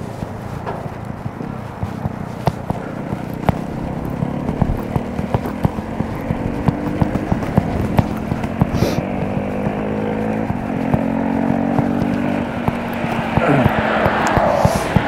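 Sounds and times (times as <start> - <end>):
bicycle tyre and road noise: 0.0 - 15.0
bike rattling over bumps: 0.0 - 15.0.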